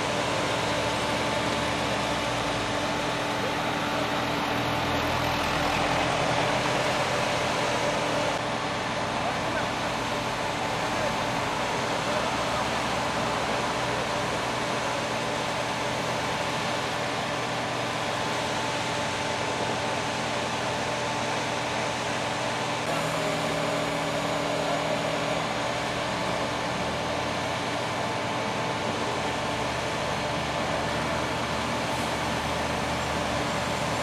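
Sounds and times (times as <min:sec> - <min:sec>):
heavy construction machinery drone: 0:00.0 - 0:34.0.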